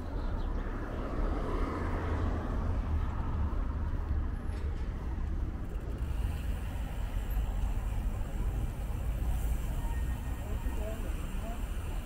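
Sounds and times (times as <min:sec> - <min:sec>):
steady low traffic rumble: 0:00.0 - 0:12.0.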